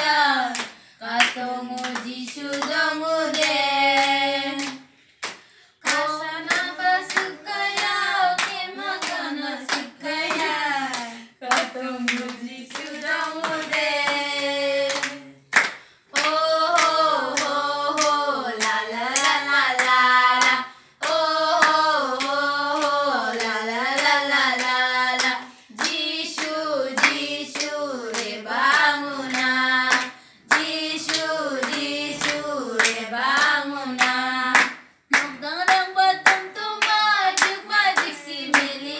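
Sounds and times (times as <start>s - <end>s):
young voices singing: 0.0s - 4.9s, 5.8s - 38.9s
hand claps: 0.5s - 14.2s, 14.9s - 38.8s.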